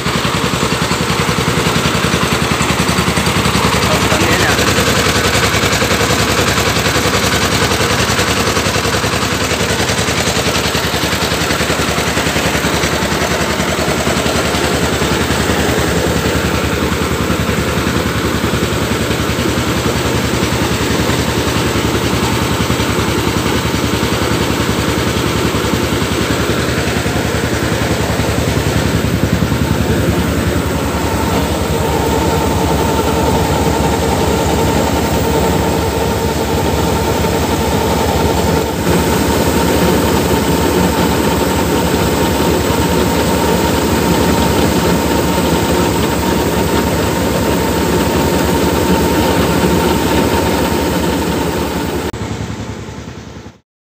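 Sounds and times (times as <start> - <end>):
mill machinery rattling: 0.0 - 53.1
diesel engine knocking: 0.0 - 53.6.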